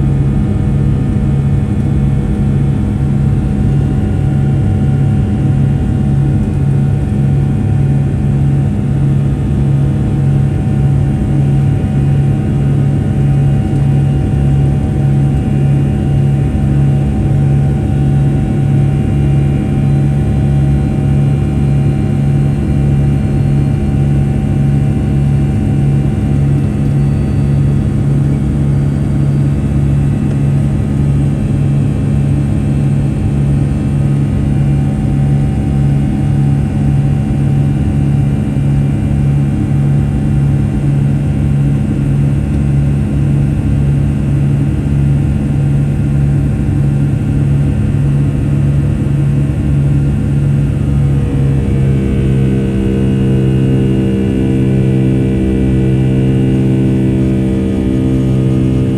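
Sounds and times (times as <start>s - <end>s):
aircraft cabin engine drone: 0.0s - 58.9s
low hum: 0.0s - 58.9s.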